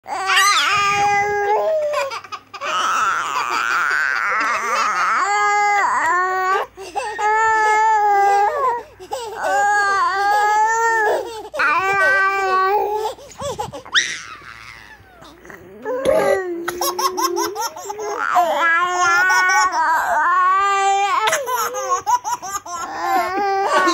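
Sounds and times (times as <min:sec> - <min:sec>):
baby squealing: 0:00.1 - 0:06.3, 0:09.4 - 0:23.9.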